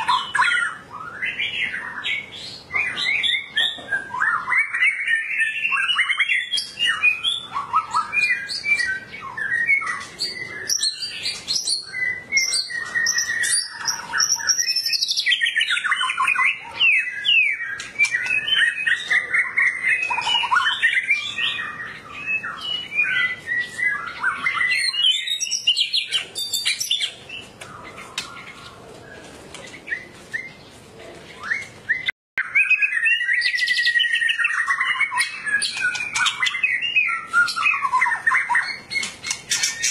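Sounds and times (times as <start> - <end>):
songbird whistling and chattering: 0.0 - 28.6, 31.4 - 39.9.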